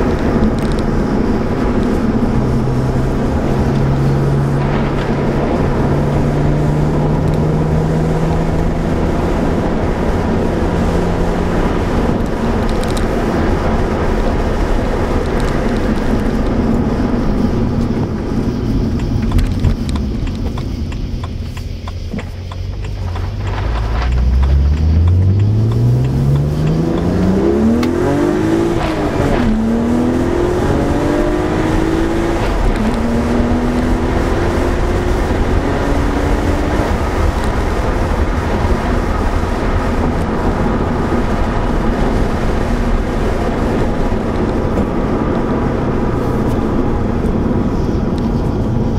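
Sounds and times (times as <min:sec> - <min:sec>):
car engine accelerating: 0:00.0 - 0:48.9.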